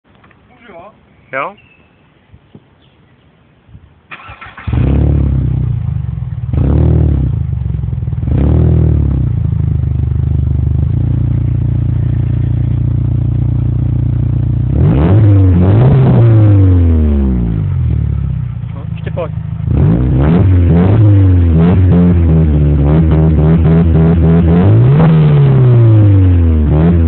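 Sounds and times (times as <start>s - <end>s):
car engine idling and revving: 4.4s - 27.0s.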